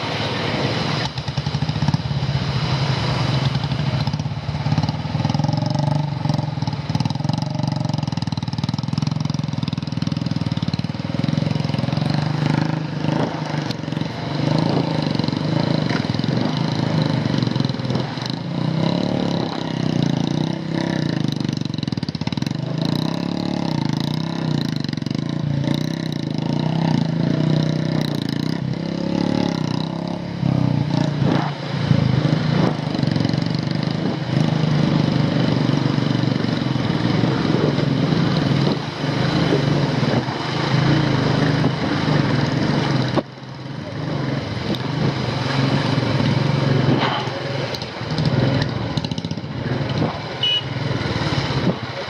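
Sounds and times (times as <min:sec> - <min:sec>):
motorcycle engine labouring: 0:00.0 - 0:52.0
water rushing: 0:00.0 - 0:52.0.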